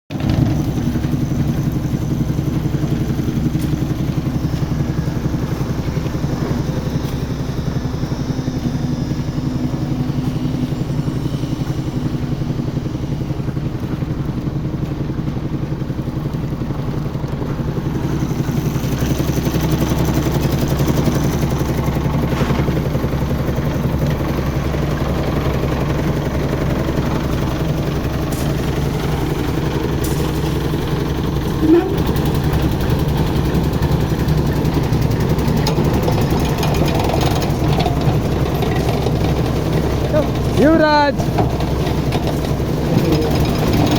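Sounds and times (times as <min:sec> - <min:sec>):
machinery engine drone: 0:00.1 - 0:43.9.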